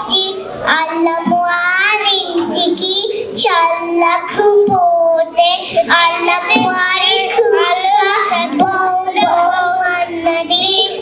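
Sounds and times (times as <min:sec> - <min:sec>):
child singing into a microphone: 0:00.0 - 0:11.0.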